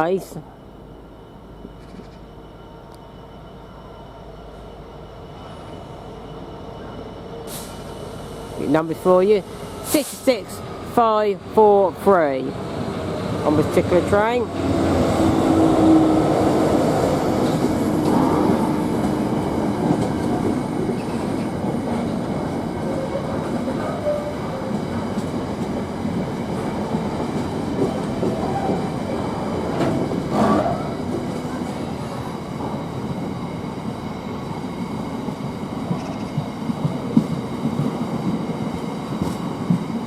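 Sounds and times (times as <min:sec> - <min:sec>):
freight train rumbling and rattling: 0:00.0 - 0:40.0.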